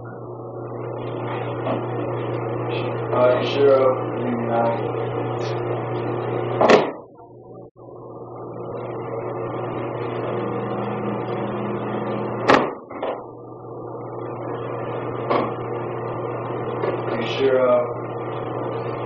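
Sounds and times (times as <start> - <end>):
electrical hum with hiss: 0.0 - 19.0.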